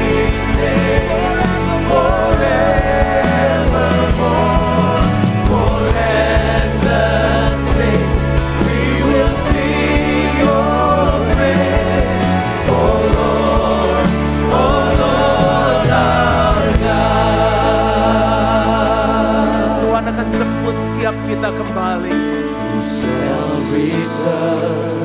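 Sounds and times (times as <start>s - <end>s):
singers with wavering vocals: 0.0s - 25.0s
worship band playing: 0.0s - 25.0s.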